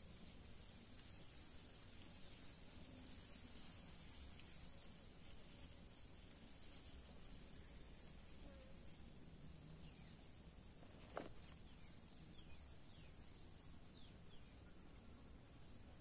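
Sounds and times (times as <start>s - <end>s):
insect drone: 0.3s - 16.0s.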